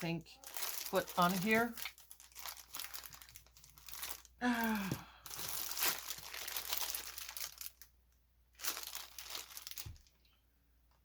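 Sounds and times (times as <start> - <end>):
packaging crinkling: 0.0 - 10.3.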